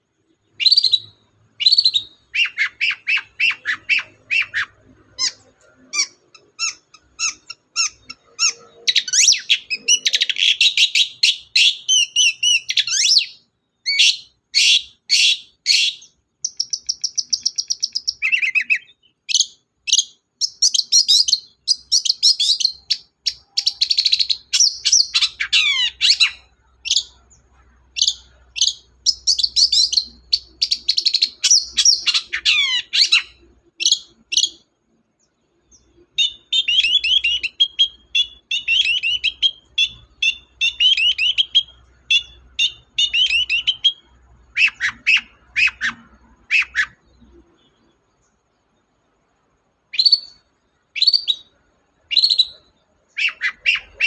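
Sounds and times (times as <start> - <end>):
shrike singing: 0.4 - 34.7, 35.3 - 48.2, 49.9 - 54.0.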